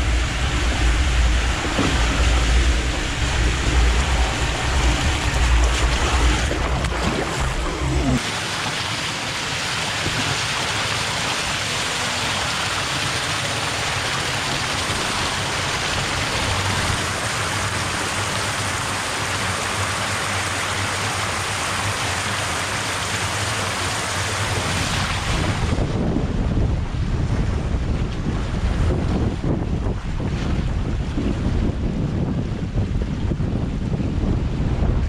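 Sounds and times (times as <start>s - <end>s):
water gushing from a pipe: 0.0s - 31.6s.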